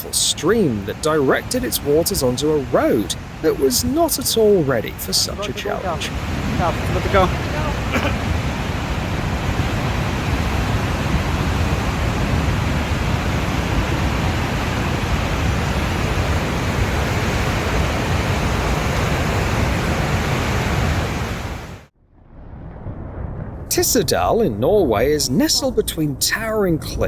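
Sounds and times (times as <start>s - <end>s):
floodwater rushing: 0.0s - 21.9s, 23.7s - 27.0s.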